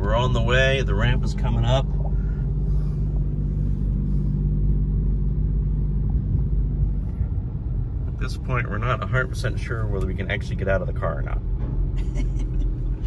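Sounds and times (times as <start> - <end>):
deep engine rumble: 0.0 - 13.0.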